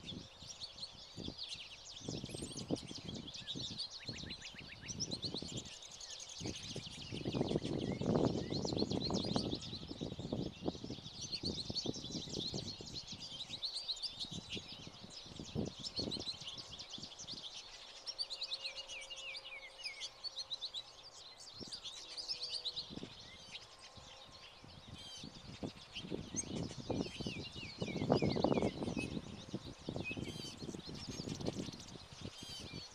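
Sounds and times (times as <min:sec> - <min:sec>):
finches twittering and singing: 0:00.0 - 0:32.9.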